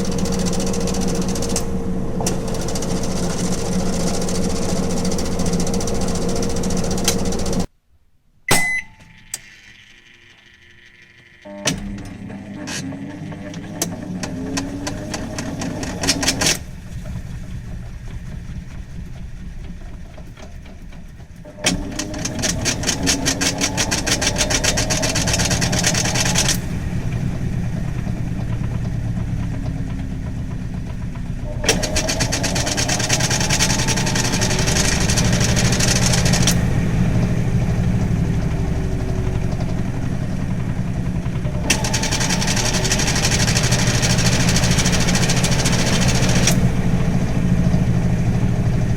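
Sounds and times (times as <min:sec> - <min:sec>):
fast clicking rattle: 0:00.0 - 0:07.7, 0:12.7 - 0:48.9
washing machine motor humming: 0:00.0 - 0:07.7, 0:08.8 - 0:48.9.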